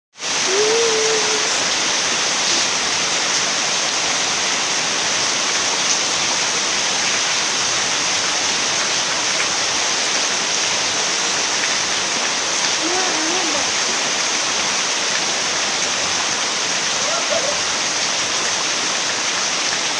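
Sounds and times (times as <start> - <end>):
heavy rain: 0.2 - 19.9.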